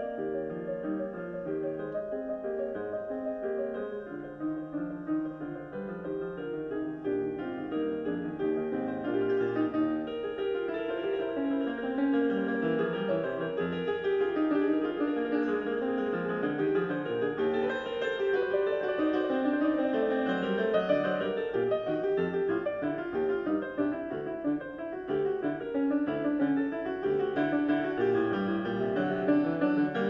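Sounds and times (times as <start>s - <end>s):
piano music over loudspeakers: 0.0s - 30.0s.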